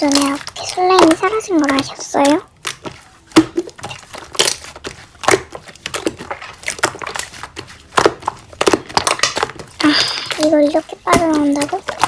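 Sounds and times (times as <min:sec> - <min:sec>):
crackling and crunchy popping: 0:00.0 - 0:12.0
slime squeezed by hand: 0:00.0 - 0:12.0.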